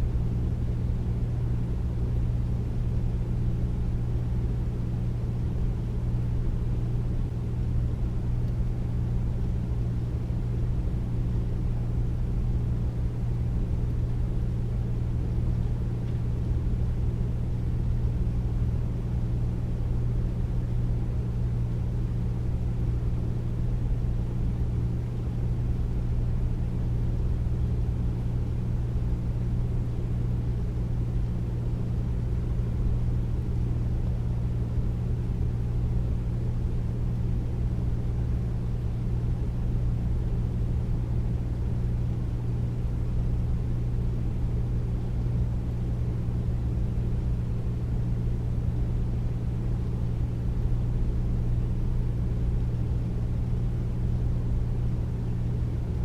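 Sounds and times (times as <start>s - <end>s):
air conditioner humming: 0.0s - 56.0s.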